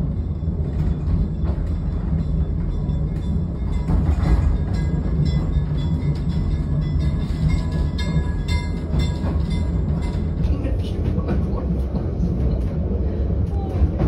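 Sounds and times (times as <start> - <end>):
diesel train rumble: 0.0 - 14.0.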